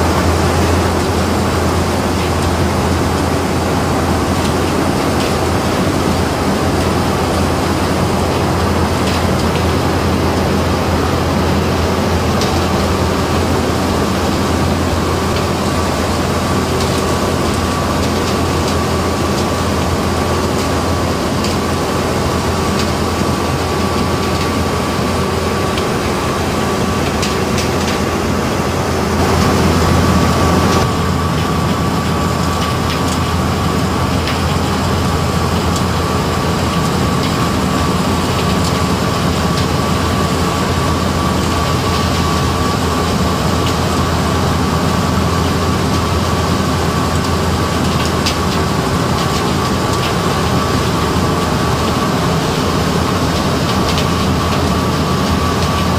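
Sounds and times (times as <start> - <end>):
low hum: 0.0 - 46.6
loud mechanical din: 0.0 - 55.9.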